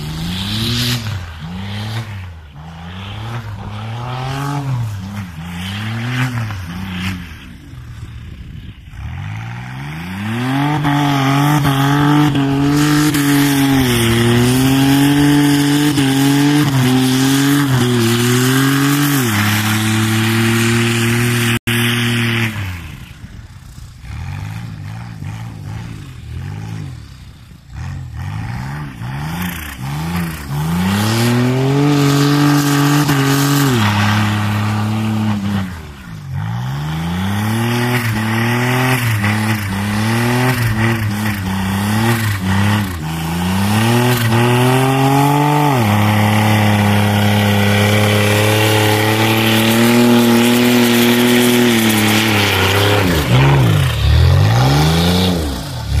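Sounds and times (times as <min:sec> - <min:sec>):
turbocharged car engine revving: 0:00.0 - 0:56.0.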